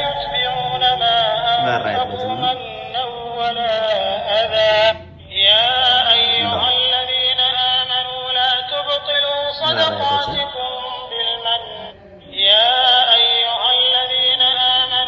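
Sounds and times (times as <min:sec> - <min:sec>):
person chanting melodically: 0:00.0 - 0:15.0.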